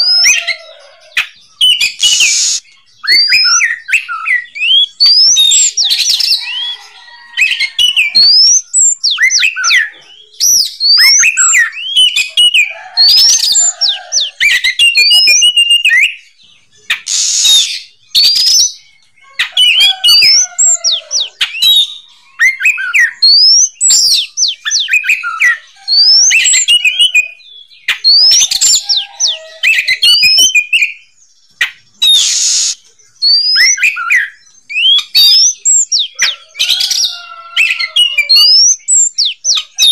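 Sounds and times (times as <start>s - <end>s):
bird singing whistles: 0.0s - 0.6s, 1.2s - 6.8s, 7.4s - 16.2s, 16.9s - 18.8s, 19.4s - 31.0s, 31.6s - 39.9s
harsh raspy bird notes: 0.0s - 16.2s, 16.9s - 31.0s, 31.6s - 39.9s.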